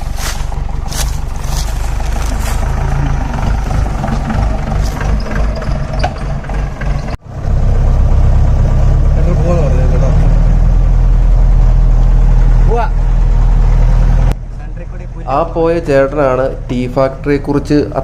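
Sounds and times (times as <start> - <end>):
jeep engine running: 0.0 - 18.0.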